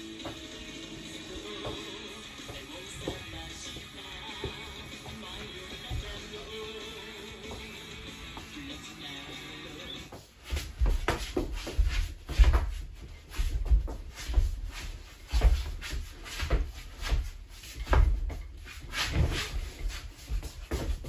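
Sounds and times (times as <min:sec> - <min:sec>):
padded feet thudding on wood: 0:00.0 - 0:21.0.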